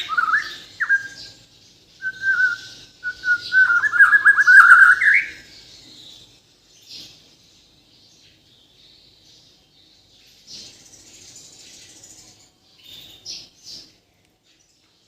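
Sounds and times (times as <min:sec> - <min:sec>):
bird singing whistled notes: 0:00.0 - 0:14.0.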